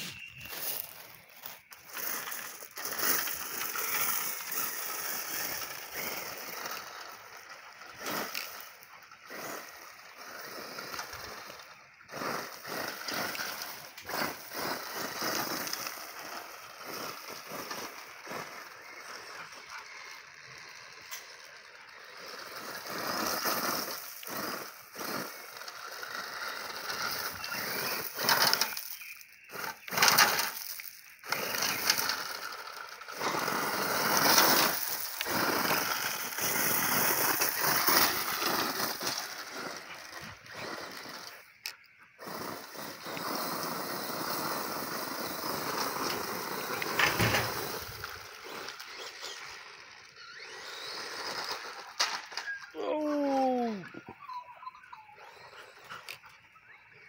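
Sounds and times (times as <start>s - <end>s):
tyres crunching gravel: 0.0s - 54.2s
rc buggy driving on gravel: 0.0s - 57.0s.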